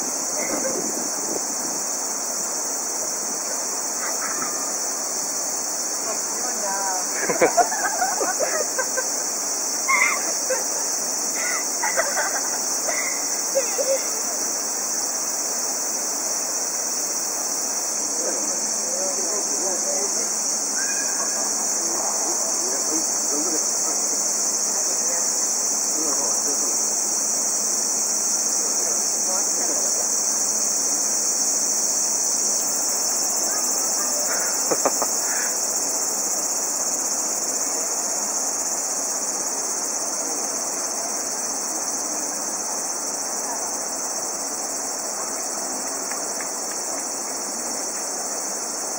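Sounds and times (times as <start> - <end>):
insects singing: 0.0 - 48.9.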